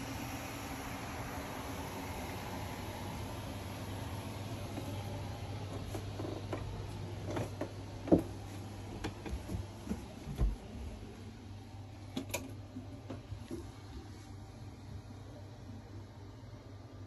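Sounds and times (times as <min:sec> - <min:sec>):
low cabin hum: 0:00.0 - 0:17.0.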